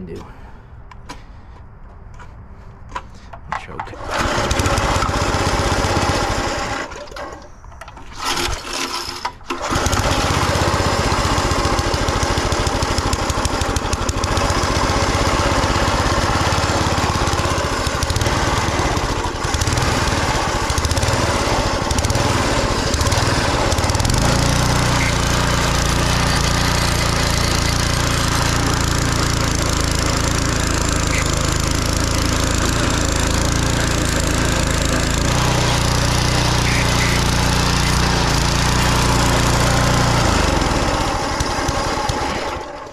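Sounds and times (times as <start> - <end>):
small gasoline engine running: 4.0 - 42.9.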